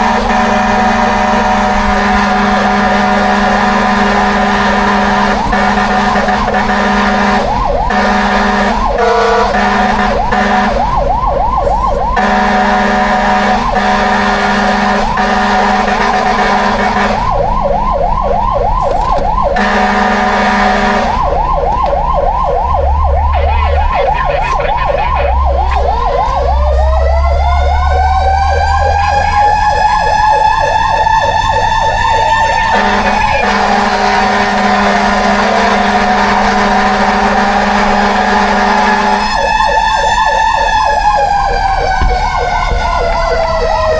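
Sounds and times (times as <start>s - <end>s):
steady horn blasts: 0.0s - 11.0s, 12.1s - 17.6s, 18.8s - 28.1s, 28.9s - 43.9s
electronic yelp siren: 0.0s - 43.9s
rising wail siren: 0.0s - 43.9s.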